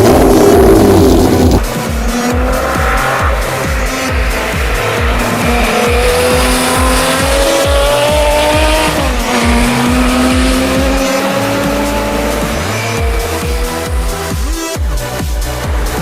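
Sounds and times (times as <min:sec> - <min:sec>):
racing engine revving: 0:00.0 - 0:16.0
music with thumping beat: 0:01.4 - 0:16.0.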